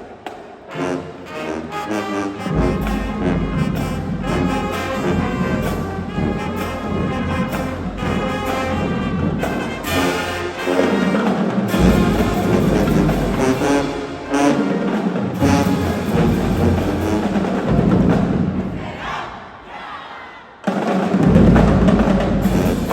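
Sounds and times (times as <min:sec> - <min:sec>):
brass band playing chords: 0:00.0 - 0:19.3, 0:20.7 - 0:22.9.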